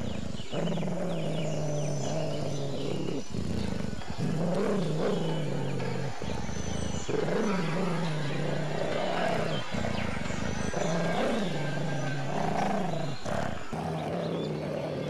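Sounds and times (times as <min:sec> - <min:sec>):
large dog growling: 0:00.0 - 0:15.0.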